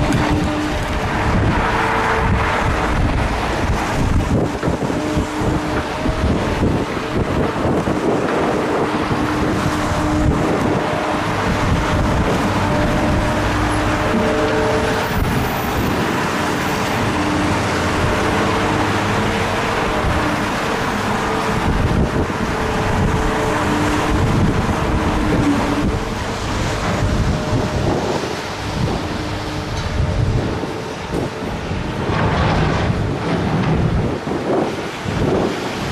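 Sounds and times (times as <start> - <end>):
machinery engine running: 0.0 - 34.2
wind on microphone: 0.0 - 35.9.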